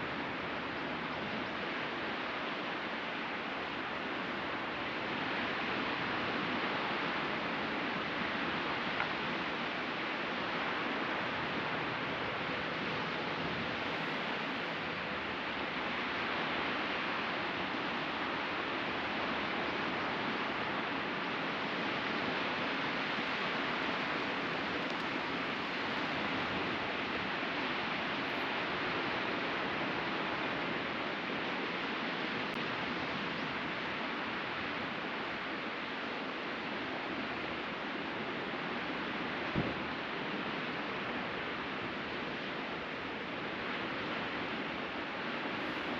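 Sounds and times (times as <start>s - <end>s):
ocean surf on a beach: 0.0s - 45.9s.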